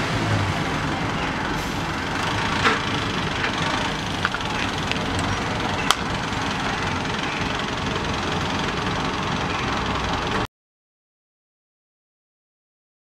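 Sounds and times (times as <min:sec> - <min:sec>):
vehicle engines running: 0:00.0 - 0:10.5.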